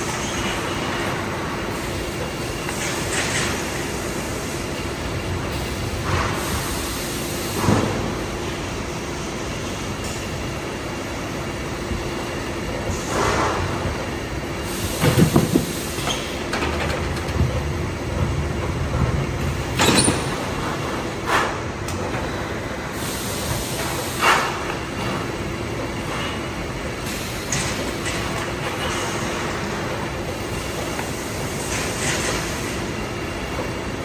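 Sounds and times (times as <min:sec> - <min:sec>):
industrial machinery hum and rumble: 0:00.0 - 0:34.0
machine clatter and hiss: 0:00.0 - 0:34.0.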